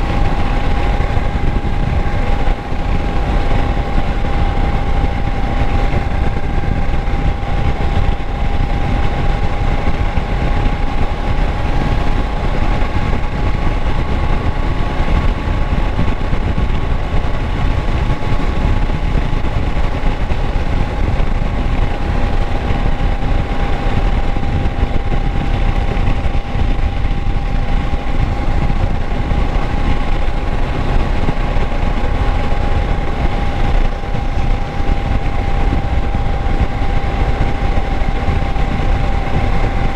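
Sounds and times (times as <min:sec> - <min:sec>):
motorcycle engine running steadily: 0:00.0 - 0:39.9
steady whine: 0:00.0 - 0:39.9.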